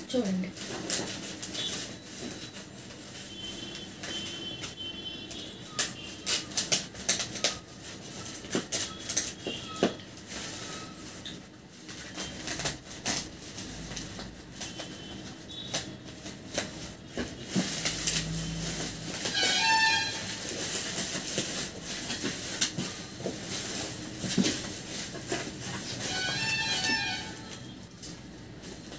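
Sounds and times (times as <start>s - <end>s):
plastic crackling and rustling: 0.0s - 28.9s
scissors snipping plastic bag: 0.1s - 28.9s.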